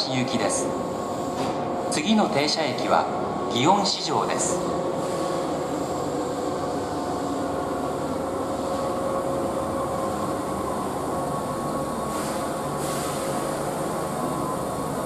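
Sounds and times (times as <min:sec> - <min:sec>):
train running hum: 0:00.0 - 0:15.0.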